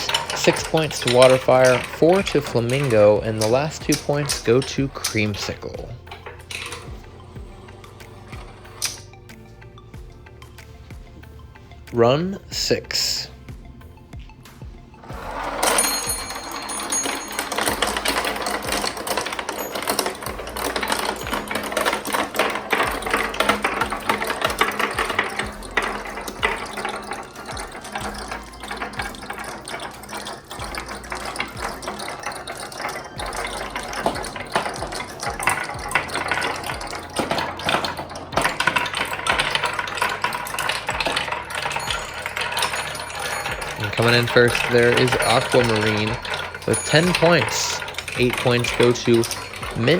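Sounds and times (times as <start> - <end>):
marbles rattling down track: 0.0 - 13.3, 15.0 - 49.9.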